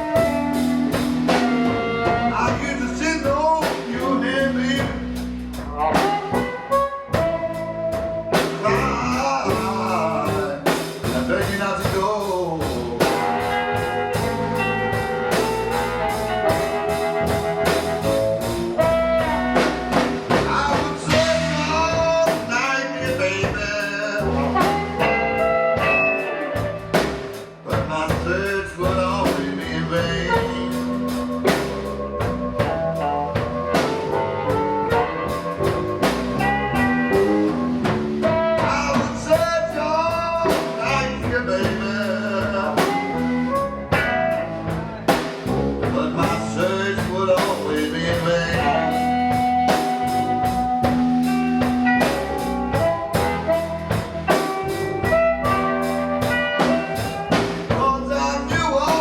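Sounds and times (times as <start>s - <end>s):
lead melody line: 0.0s - 12.2s, 12.8s - 59.0s
bass: 0.0s - 59.0s
drum kit: 0.0s - 59.0s.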